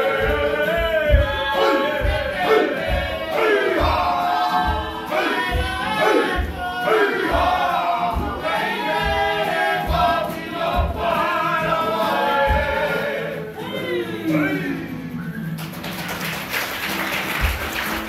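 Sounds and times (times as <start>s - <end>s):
group singing: 0.0s - 15.4s
acoustic guitar: 0.0s - 18.0s.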